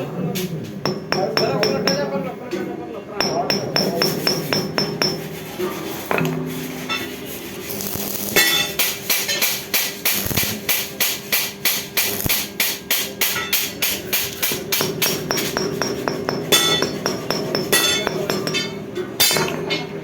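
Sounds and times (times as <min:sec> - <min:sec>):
steady hum: 0:03.2 - 0:19.8.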